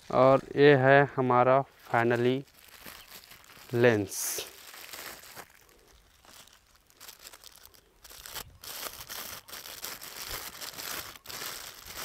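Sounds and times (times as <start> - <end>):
plastic bag crinkling: 1.8 - 12.0.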